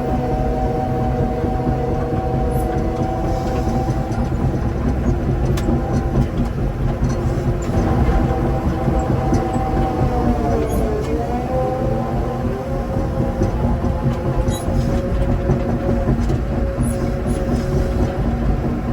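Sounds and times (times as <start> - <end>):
heavy machine engine rumbling: 0.0 - 18.9.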